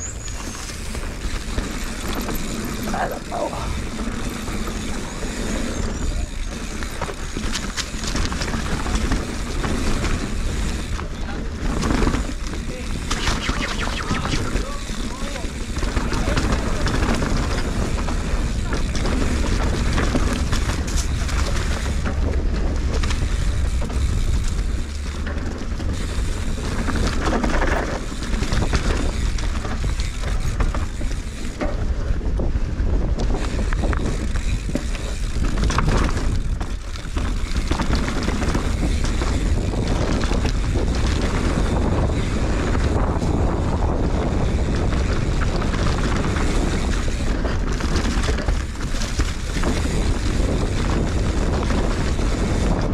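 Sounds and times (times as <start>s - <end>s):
tyre noise on dirt trail: 0.0s - 52.9s
wind buffeting microphone: 0.0s - 52.9s
bike knocks and rattles: 0.1s - 13.2s, 14.7s - 52.9s.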